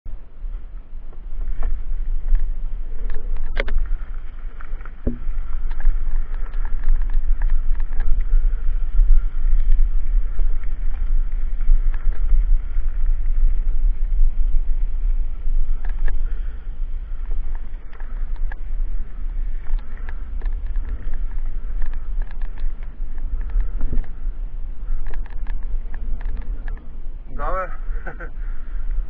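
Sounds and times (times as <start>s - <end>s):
wind buffeting microphone: 0.1s - 29.0s
bike rolling over gravel: 0.2s - 29.0s
bike clicks and rattles: 0.6s - 29.0s.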